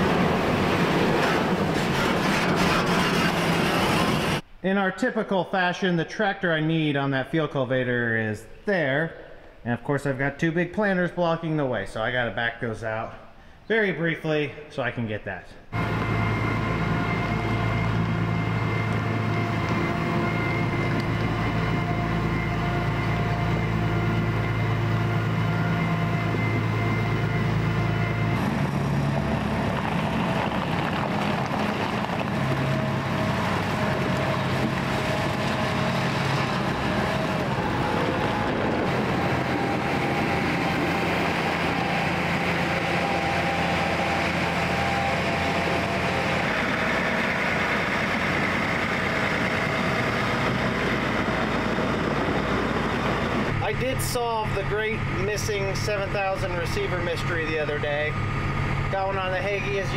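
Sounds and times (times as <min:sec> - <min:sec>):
tractor diesel engine running: 0:00.0 - 0:04.4, 0:15.7 - 0:59.9.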